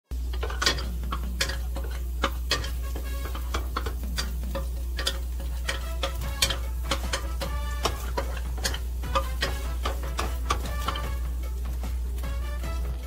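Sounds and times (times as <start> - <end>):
frying sizzle: 0.0 - 13.0
metal spatula scraping pan: 0.1 - 13.0
steady low hum: 0.1 - 13.0.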